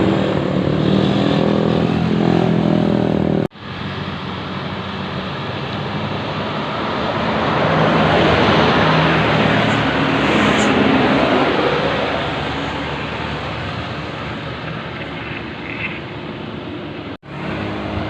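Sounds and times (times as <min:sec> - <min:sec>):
bus engine passing: 0:00.0 - 0:18.0.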